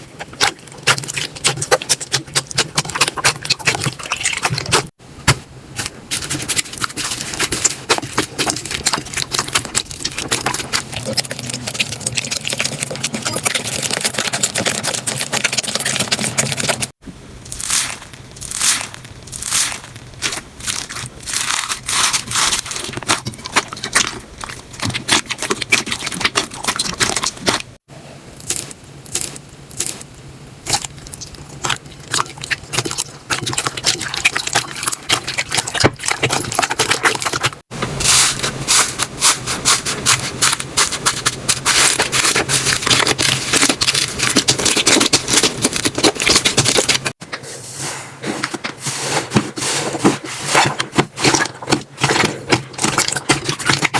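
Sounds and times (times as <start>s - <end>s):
sticky scraping: 0.0s - 53.9s
slime crackling and popping: 5.8s - 47.2s, 50.6s - 53.9s.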